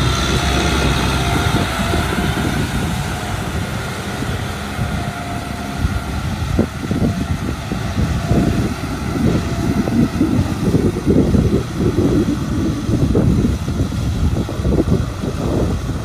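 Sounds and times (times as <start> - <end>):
rotary tiller churning mud: 0.0 - 16.0
tractor diesel engine rumbling: 0.0 - 16.0.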